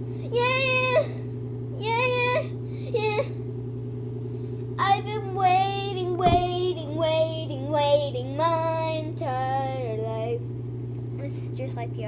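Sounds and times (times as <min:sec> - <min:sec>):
electric fan humming: 0:00.0 - 0:12.0
girl singing into a fan: 0:00.2 - 0:03.4, 0:04.7 - 0:12.0.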